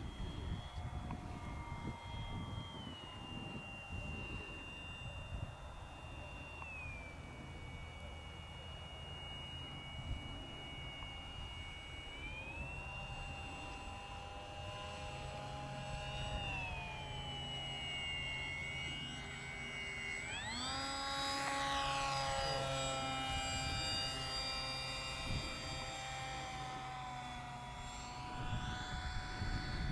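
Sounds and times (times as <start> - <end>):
model airplane motor whining: 0.0 - 29.9.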